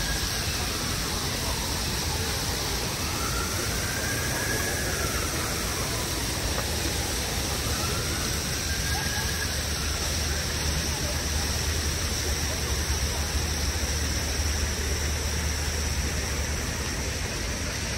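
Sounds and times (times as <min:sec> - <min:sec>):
constant rushing hiss: 0:00.0 - 0:17.9.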